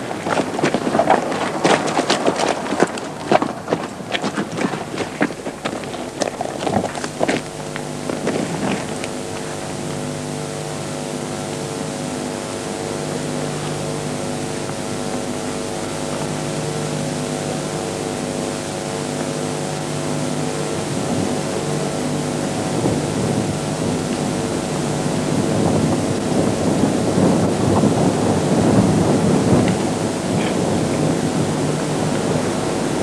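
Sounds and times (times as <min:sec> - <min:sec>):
low humming drone: 0:00.0 - 0:33.0.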